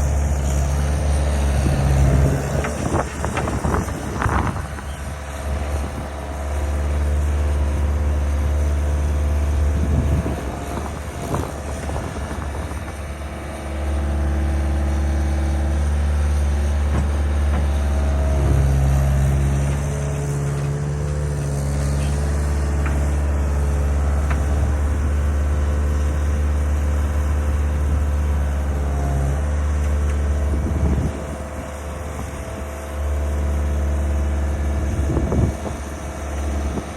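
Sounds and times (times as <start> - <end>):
diesel engine droning: 0.0 - 36.9.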